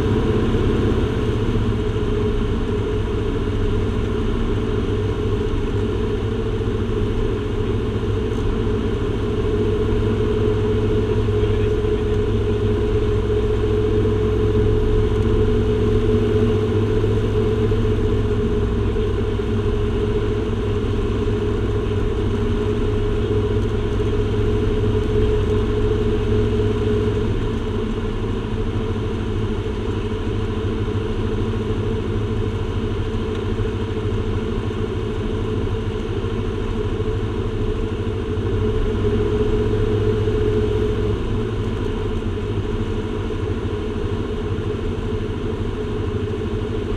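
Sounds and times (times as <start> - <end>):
aircraft engines humming: 0.0 - 46.9.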